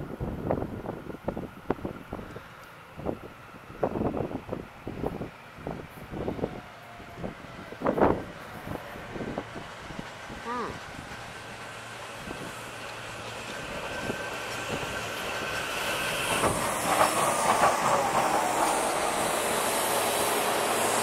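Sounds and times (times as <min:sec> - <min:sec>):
electric train whine: 0:00.0 - 0:21.0
rumbling rail noise: 0:00.0 - 0:21.0.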